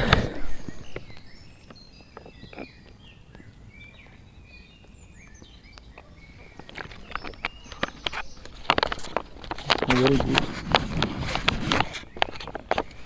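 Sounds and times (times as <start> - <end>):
small birds singing: 0.0 - 13.0
soft clicks and rustles: 0.0 - 13.0.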